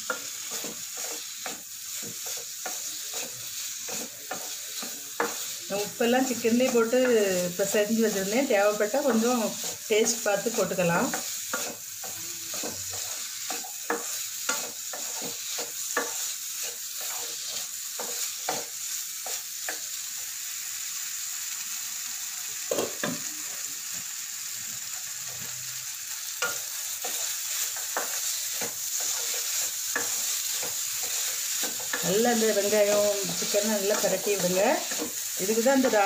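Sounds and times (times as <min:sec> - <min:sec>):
wooden spatula stirring and scraping: 0:00.0 - 0:19.4, 0:26.4 - 0:36.0
chicken and onions sizzling: 0:00.0 - 0:36.0.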